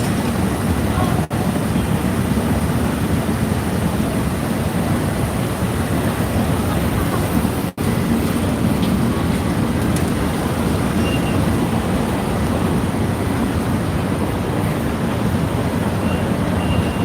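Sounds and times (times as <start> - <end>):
rumbling street noise: 0.0 - 17.0.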